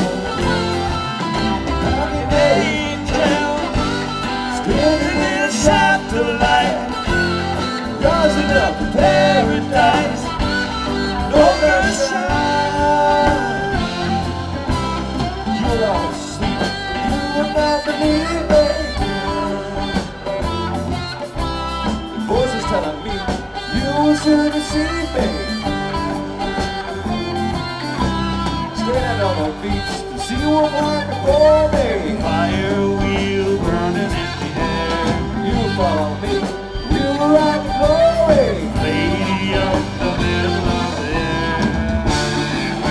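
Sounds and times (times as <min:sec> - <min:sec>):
two people singing: 0:00.0 - 0:27.6, 0:28.5 - 0:42.9
live band music: 0:00.0 - 0:42.9.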